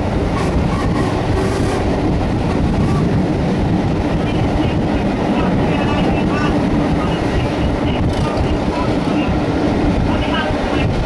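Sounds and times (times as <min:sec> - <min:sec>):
train rumbling from inside carriage: 0:00.0 - 0:11.0.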